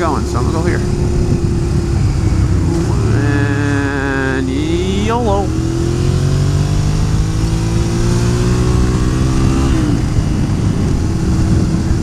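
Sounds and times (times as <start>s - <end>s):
motorcycle engine accelerating: 0.0s - 12.0s
wind rush: 0.0s - 12.0s.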